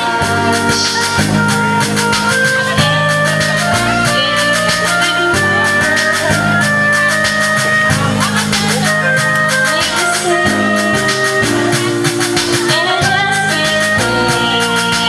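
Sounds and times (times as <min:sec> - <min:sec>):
music with steady beat: 0:00.0 - 0:15.0.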